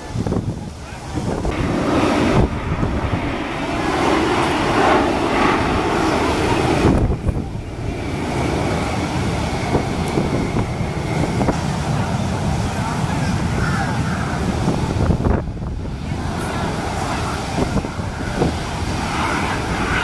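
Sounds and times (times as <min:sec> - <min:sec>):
jet aircraft flying overhead: 0:00.0 - 0:20.0
thin high jet whine: 0:00.9 - 0:15.4, 0:16.0 - 0:20.0.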